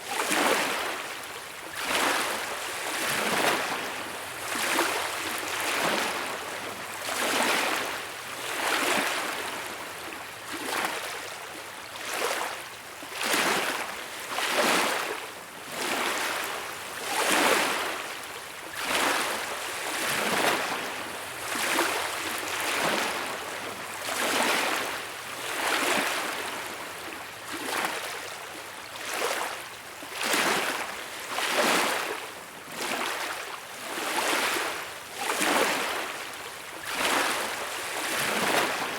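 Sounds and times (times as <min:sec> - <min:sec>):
small waves washing onto beach: 0:00.0 - 0:38.9.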